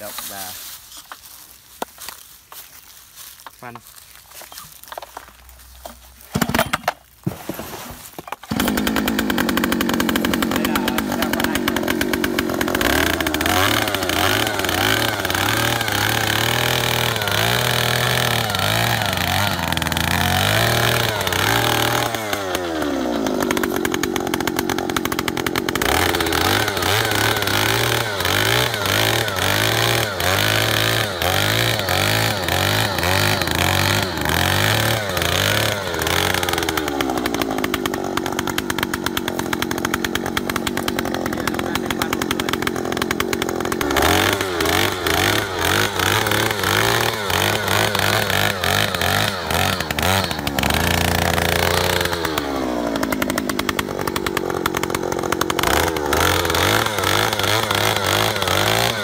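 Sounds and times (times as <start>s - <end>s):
earth auger engine revving: 4.4s - 59.0s.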